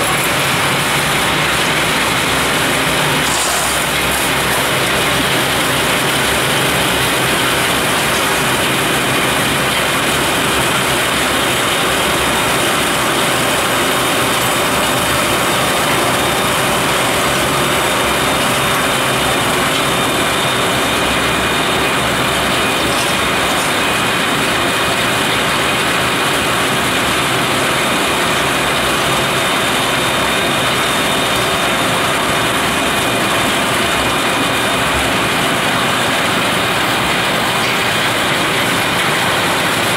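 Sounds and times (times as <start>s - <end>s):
railway snow blower running: 0.0s - 39.9s.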